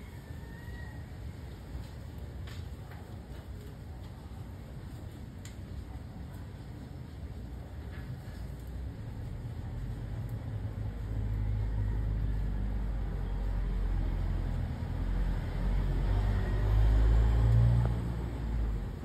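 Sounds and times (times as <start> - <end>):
vehicle engine rumble: 1.3 - 19.0.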